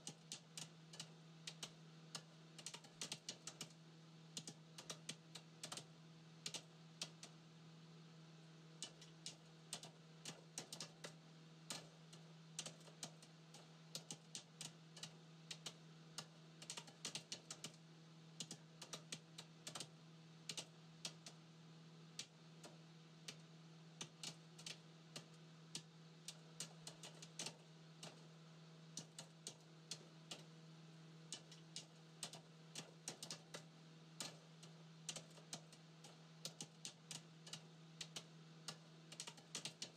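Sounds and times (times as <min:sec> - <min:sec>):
rapid light clicks: 0:00.0 - 0:07.4, 0:08.8 - 0:17.8, 0:18.4 - 0:21.4, 0:22.2 - 0:28.3, 0:28.9 - 0:30.6, 0:31.3 - 0:39.9
steady low hum: 0:00.0 - 0:39.9.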